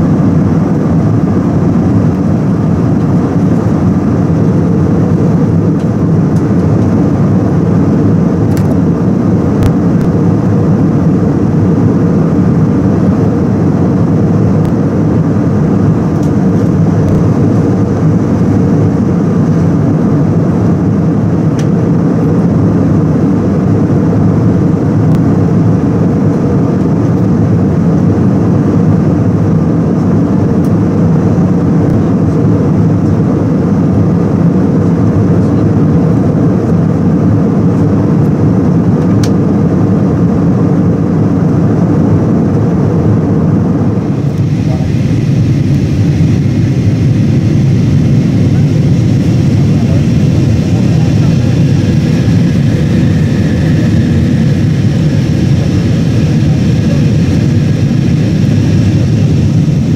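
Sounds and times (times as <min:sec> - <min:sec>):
airflow over fuselage: 0:00.0 - 0:59.9
airplane cabin engine drone: 0:00.0 - 0:59.9.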